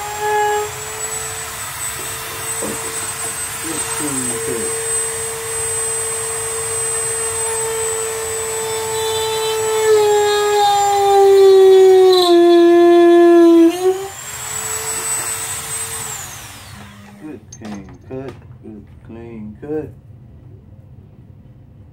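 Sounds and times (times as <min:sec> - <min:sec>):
rotary tool whining: 0:00.0 - 0:17.8.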